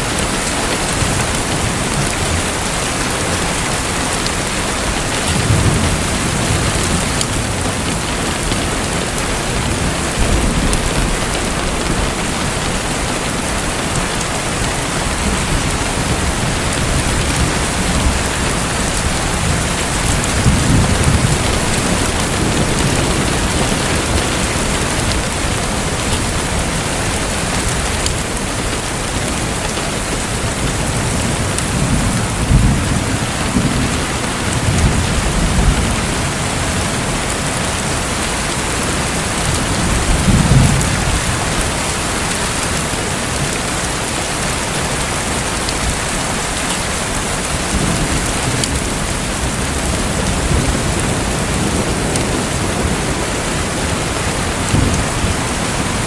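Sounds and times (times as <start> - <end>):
water falling and splashing: 0.0 - 56.0.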